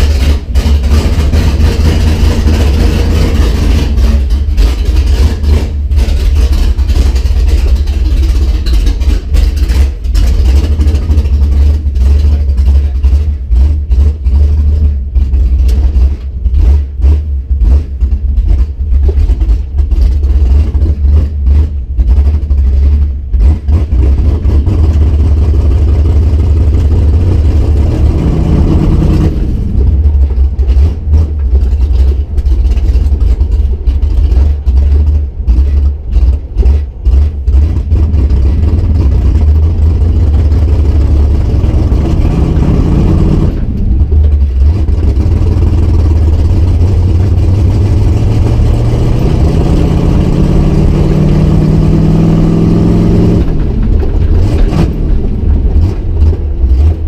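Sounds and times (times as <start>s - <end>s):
loud uneven engine rumble: 0.0s - 57.0s.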